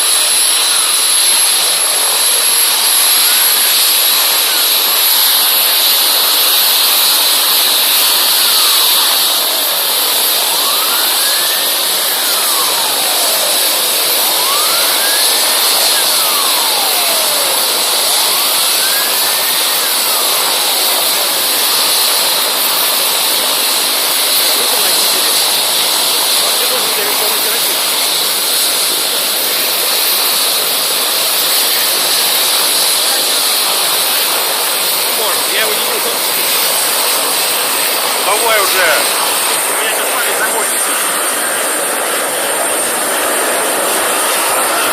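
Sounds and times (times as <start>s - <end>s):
helicopter turbine whine: 0.0s - 44.9s
siren wailing: 0.0s - 44.9s.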